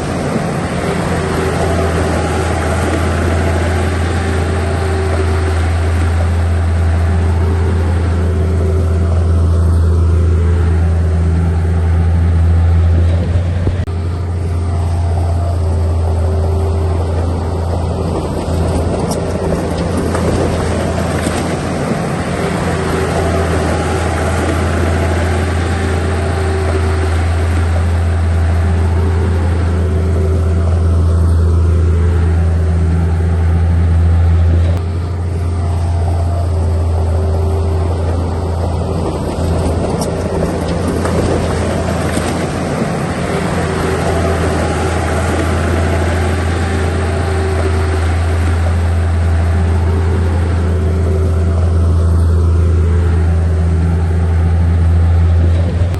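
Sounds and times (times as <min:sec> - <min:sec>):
heavy machine diesel engine droning: 0:00.0 - 0:55.9.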